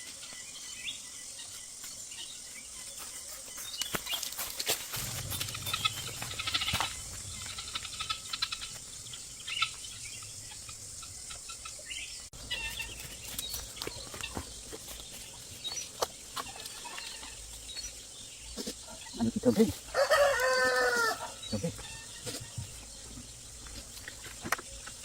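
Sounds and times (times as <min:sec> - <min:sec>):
outdoor background noise: 0:00.0 - 0:25.0
small birds chirping: 0:00.0 - 0:25.0.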